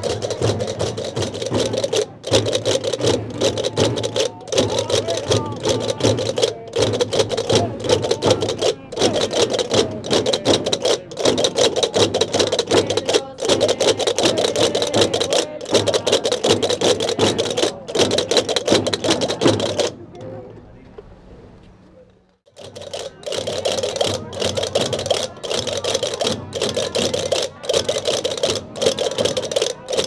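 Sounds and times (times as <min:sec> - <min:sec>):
hand drums beating: 0:00.0 - 0:20.1, 0:22.5 - 0:30.0
group of voices singing: 0:00.0 - 0:20.4, 0:23.0 - 0:30.0.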